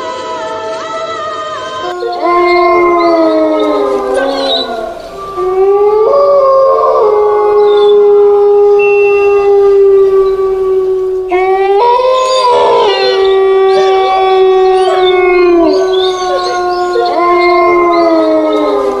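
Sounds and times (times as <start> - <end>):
dogs howling: 0.0 - 19.0.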